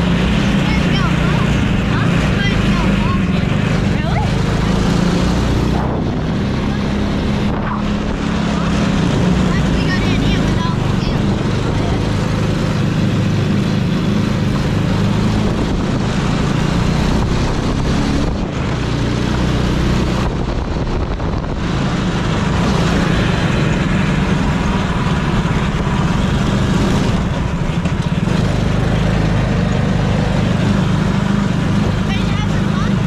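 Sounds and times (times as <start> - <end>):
small petrol engine running: 0.0 - 33.0.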